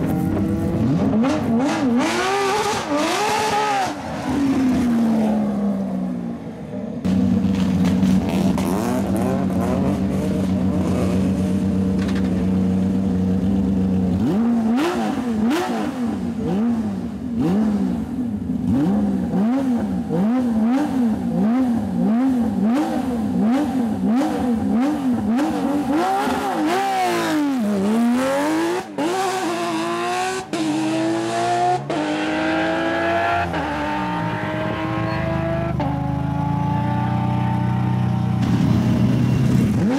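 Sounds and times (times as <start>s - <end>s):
car engine idling and revving: 0.0s - 39.9s
car accelerating with gear changes: 7.1s - 39.9s.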